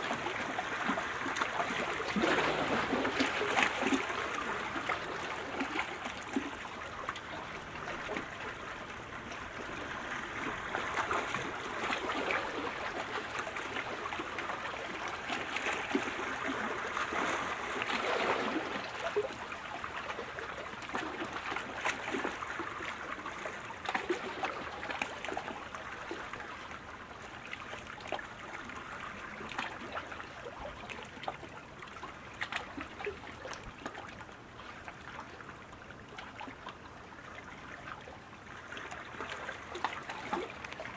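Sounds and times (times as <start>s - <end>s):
small water splashes and drips: 0.0s - 40.9s
water lapping and trickling: 0.0s - 40.9s.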